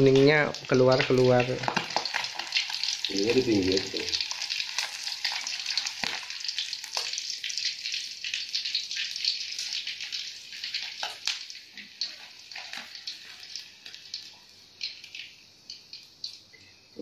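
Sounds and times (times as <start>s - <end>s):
egg sizzling in oil: 0.0s - 17.0s.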